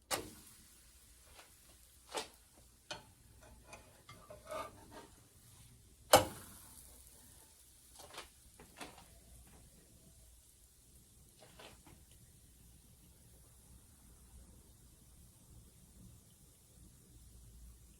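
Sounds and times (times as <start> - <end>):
faint pancake sizzle: 0.0 - 17.9.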